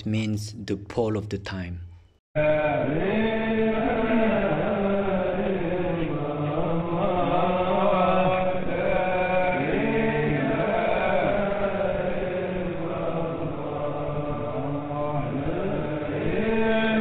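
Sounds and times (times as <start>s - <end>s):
voices chanting devotional music: 0.0s - 17.0s.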